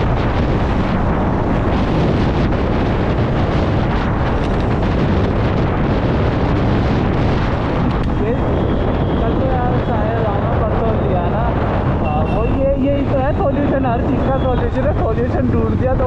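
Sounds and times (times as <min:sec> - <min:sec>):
scooter and road noise: 0:00.0 - 0:16.0
wind rushing over microphone: 0:00.0 - 0:16.0.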